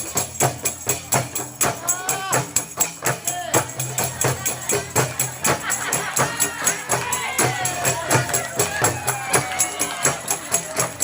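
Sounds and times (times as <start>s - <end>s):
frame drums beating: 0.0s - 11.0s.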